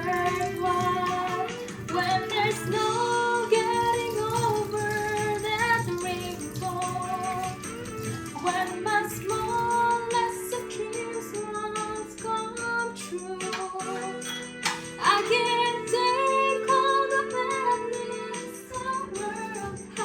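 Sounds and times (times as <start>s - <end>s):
song with percussive beat: 0.0s - 20.0s.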